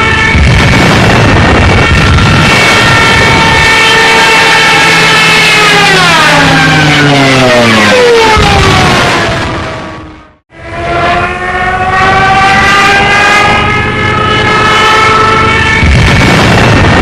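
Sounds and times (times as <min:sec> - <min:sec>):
dive siren wailing: 0:00.0 - 0:17.0.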